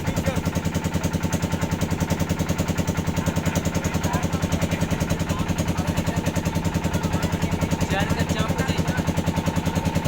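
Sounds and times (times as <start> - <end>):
engine chugging: 0.0 - 10.0.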